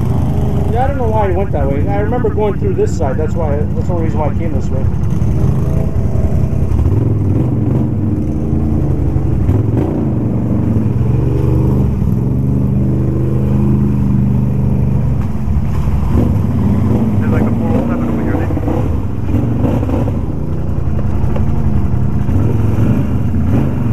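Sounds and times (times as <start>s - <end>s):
atv engine revving: 0.0s - 23.9s.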